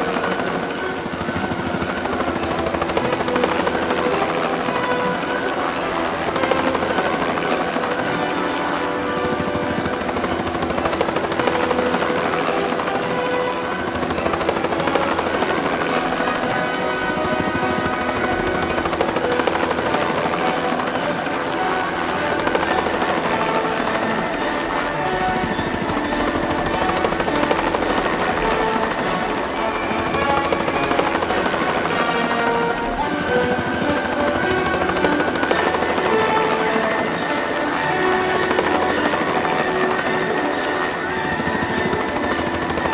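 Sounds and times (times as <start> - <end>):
background music: 0.0 - 42.9
helicopter rotor and engine: 0.0 - 42.9.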